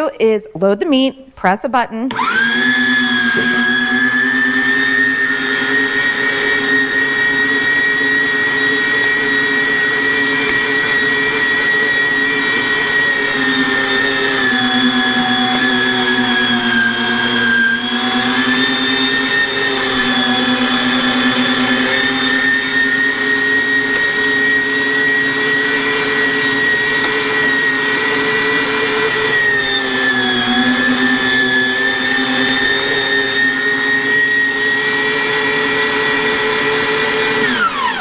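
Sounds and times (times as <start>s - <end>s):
meat grinder motor whining: 2.1s - 38.0s.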